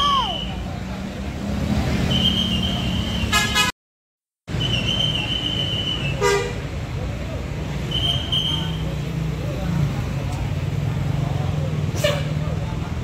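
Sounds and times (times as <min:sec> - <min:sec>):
bus engines droning: 0:00.0 - 0:03.7, 0:04.5 - 0:13.0.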